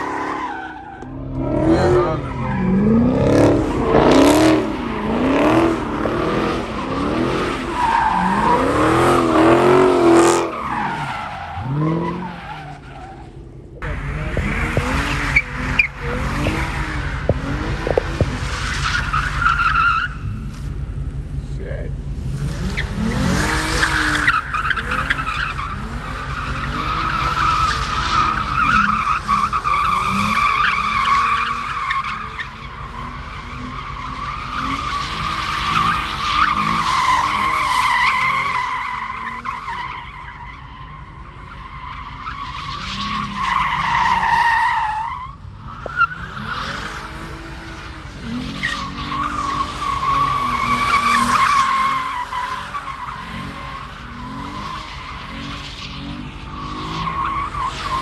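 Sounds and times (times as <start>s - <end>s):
car engine revving: 0.0s - 58.0s
car tyres squealing: 0.0s - 58.0s.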